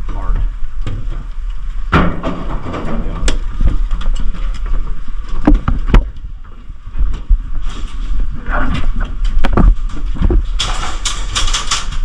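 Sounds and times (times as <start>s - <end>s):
wind rumble: 0.0s - 12.0s.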